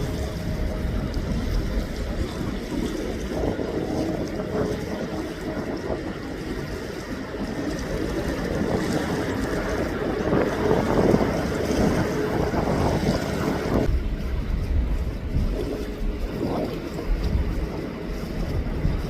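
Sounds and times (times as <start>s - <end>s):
low rumble: 0.0s - 19.0s
wind buffeting microphone: 0.0s - 19.0s.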